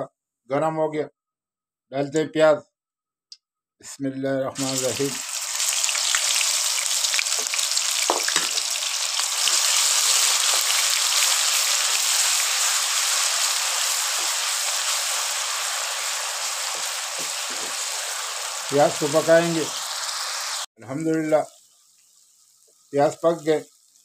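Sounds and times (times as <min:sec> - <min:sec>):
onions sizzling in a wok: 0:04.6 - 0:24.0.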